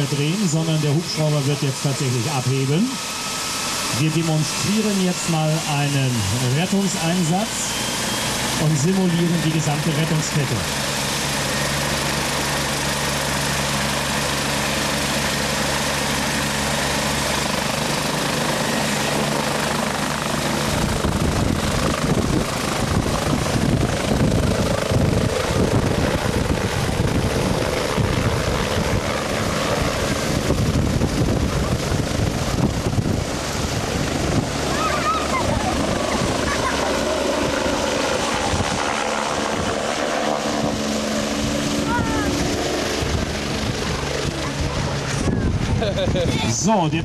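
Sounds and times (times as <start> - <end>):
helicopter rotor beat: 0.0 - 47.0
helicopter turbine humming: 0.0 - 47.0.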